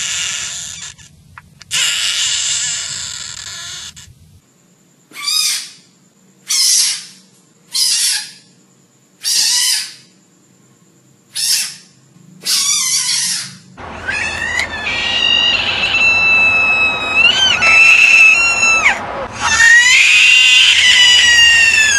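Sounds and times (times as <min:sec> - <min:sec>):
frogs screaming: 0:00.0 - 0:04.1, 0:05.1 - 0:08.6, 0:09.2 - 0:10.2, 0:11.3 - 0:21.9.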